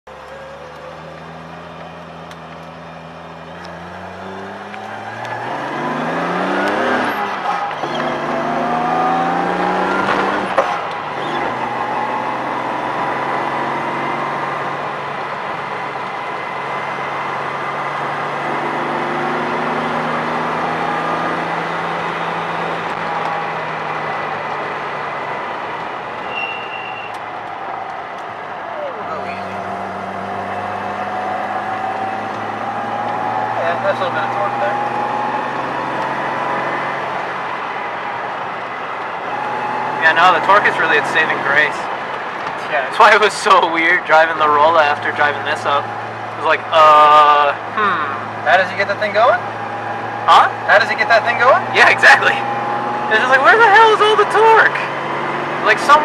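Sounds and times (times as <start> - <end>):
car engine accelerating: 0.1 - 56.0.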